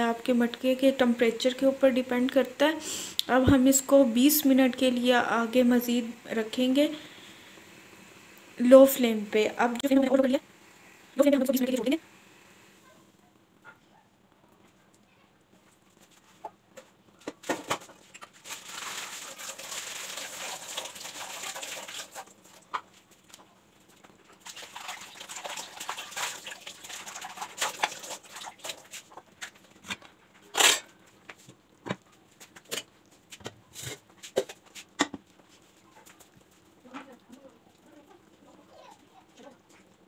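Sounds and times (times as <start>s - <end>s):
stew bubbling and crackling: 0.5s - 40.0s.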